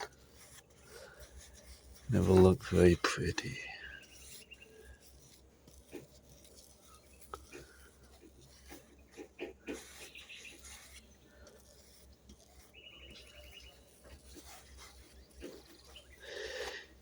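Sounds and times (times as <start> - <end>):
paintbrush brushing and tapping: 0.0 - 17.0.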